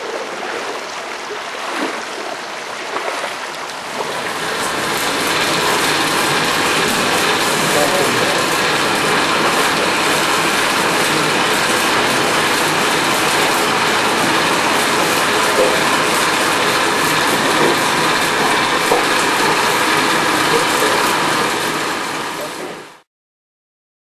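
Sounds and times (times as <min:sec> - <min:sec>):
coffee pulper machine running: 0:03.7 - 0:23.0.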